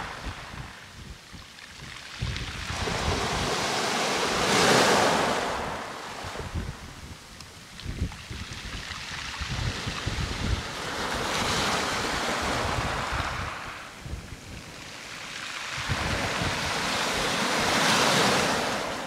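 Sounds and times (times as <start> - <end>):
waves washing over pebble beach: 0.0 - 7.1, 7.7 - 19.0
wind buffeting microphone: 0.0 - 14.8, 15.7 - 19.0.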